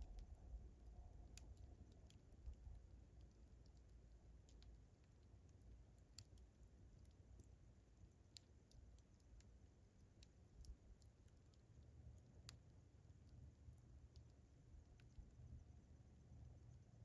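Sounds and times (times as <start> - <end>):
campfire crackling: 0.0 - 17.0
low steady rumble: 0.0 - 17.0.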